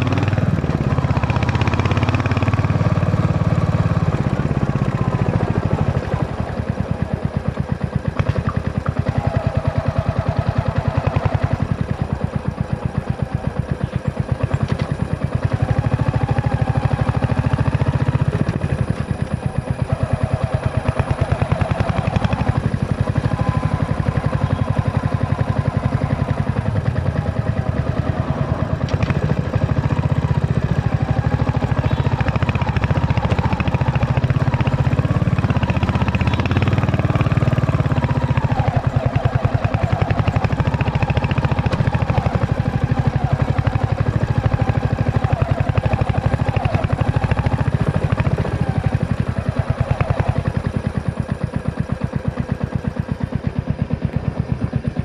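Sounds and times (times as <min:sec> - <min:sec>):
motorcycle engine thumping: 0:02.6 - 0:51.1.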